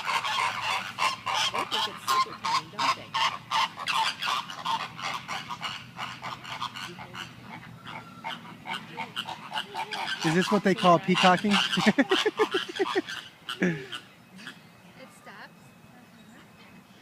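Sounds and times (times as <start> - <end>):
flamingos honking: 0.0 - 17.0.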